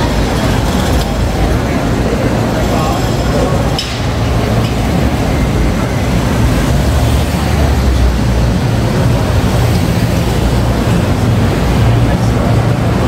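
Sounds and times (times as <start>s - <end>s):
passing pedestrians: 0.0s - 13.0s
traffic rumble: 0.0s - 13.0s.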